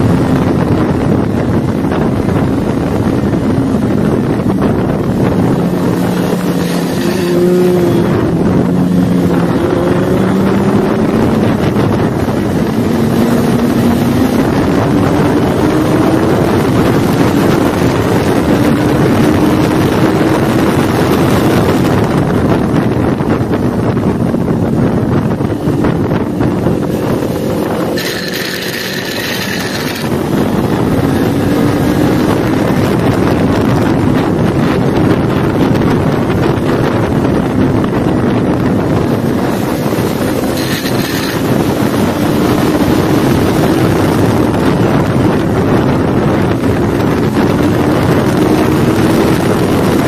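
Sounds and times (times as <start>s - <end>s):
motorcycle engine running hard: 0.0s - 50.0s
wind rush on microphone: 0.0s - 50.0s.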